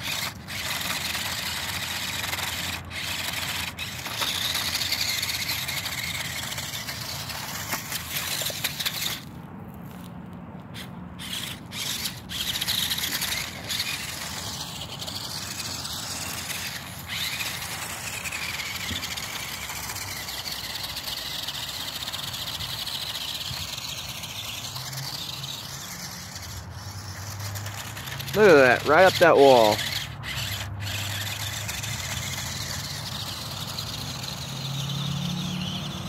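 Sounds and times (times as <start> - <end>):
toy car electric motor whining: 0.0 - 10.1, 10.7 - 36.0.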